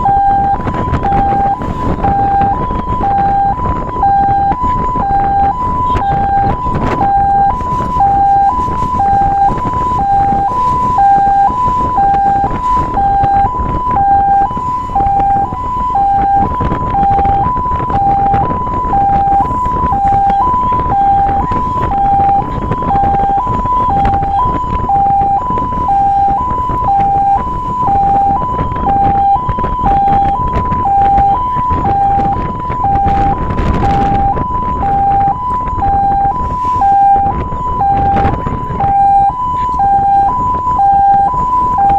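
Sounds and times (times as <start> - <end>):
truck rumbling: 0.0 - 41.9
two-tone siren: 0.0 - 41.9.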